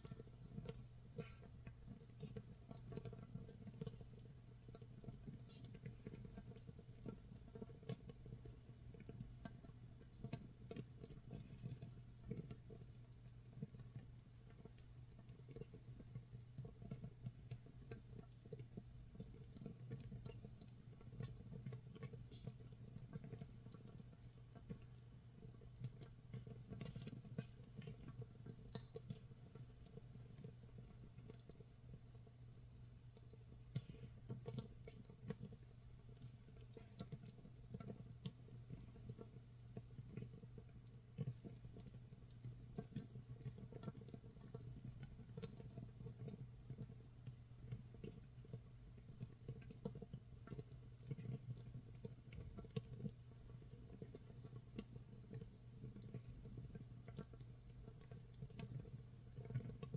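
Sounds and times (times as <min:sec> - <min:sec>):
fermentation bubbles popping: 0:00.0 - 0:59.9.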